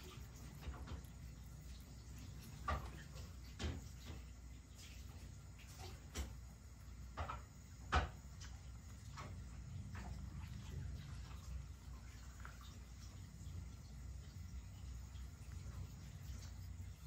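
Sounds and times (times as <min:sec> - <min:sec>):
cat lapping and chewing food: 0:00.0 - 0:17.0.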